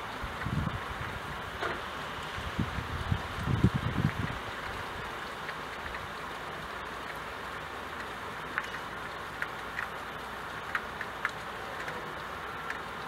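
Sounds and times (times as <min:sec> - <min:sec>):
rain on window glass: 0:00.0 - 0:13.0
sharp raindrop ticks: 0:00.0 - 0:13.0.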